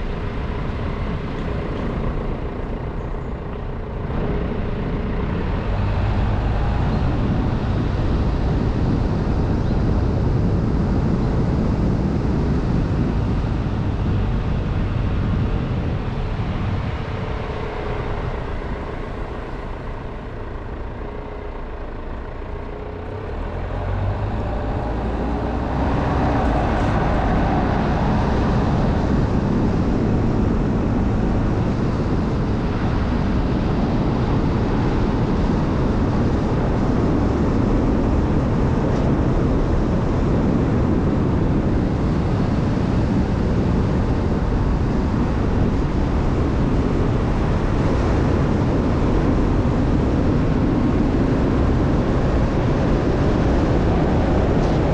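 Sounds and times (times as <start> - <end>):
car engine: 0.0 - 54.9.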